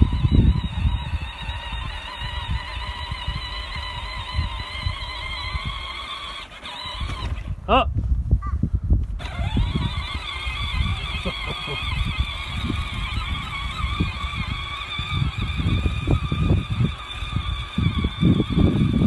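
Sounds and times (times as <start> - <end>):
high-pitched tractor whine: 0.0 - 7.5, 9.2 - 19.0
tractor engine rumble: 0.0 - 7.6, 9.1 - 19.0.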